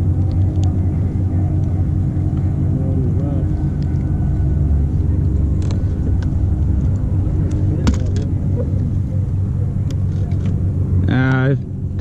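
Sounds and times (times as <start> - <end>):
electric boat motor humming: 0.0 - 12.0.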